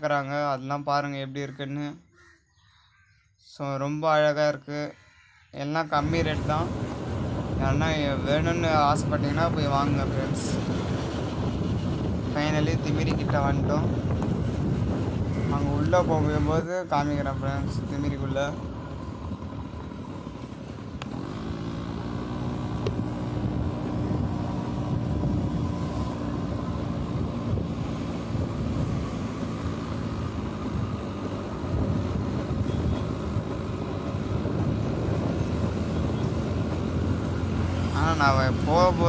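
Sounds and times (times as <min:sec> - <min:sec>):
motorcycle engine revving: 0:06.0 - 0:39.0.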